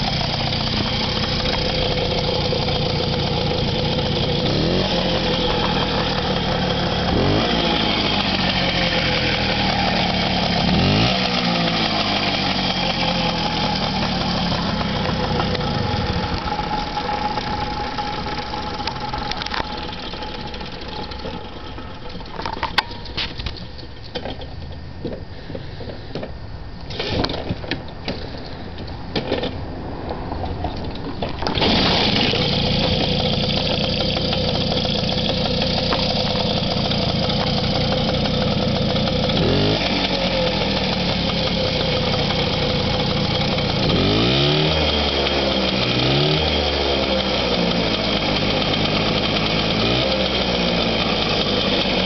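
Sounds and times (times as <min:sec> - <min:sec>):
moped engine running and revving: 0:00.0 - 0:23.8, 0:31.5 - 0:52.0.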